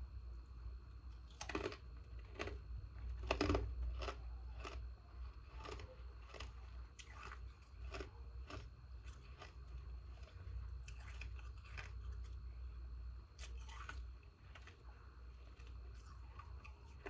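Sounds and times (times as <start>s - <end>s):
ice crunching while chewed: 1.1s - 12.8s, 13.4s - 17.0s.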